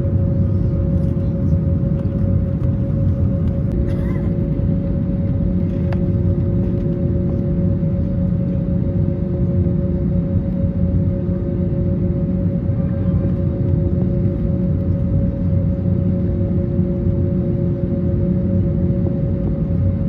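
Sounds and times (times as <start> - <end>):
airliner cabin rumble: 0.0 - 20.0
steady hum tones: 0.0 - 20.0.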